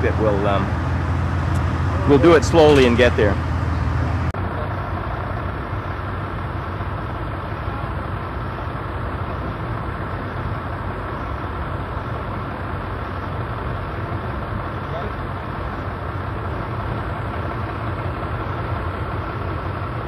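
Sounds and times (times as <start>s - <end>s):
crane engines humming: 0.0s - 20.0s.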